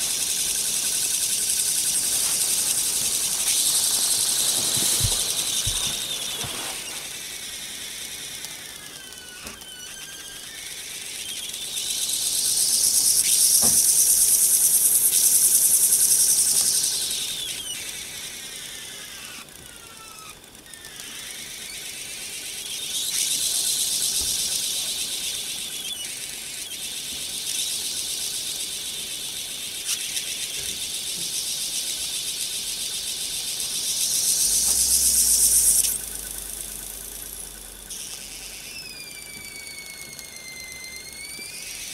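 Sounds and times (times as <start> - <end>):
thin squealing whistle: 0.0 - 28.4, 33.8 - 41.9.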